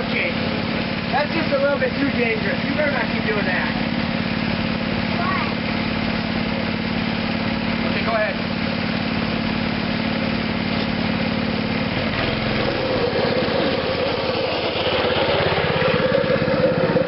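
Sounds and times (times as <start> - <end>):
go-kart engine running: 0.0 - 17.0.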